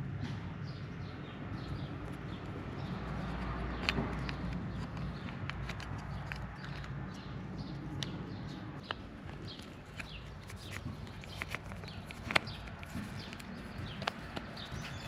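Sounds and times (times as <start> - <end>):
plastic switch parts clicking: 2.0 - 8.2, 8.8 - 15.0.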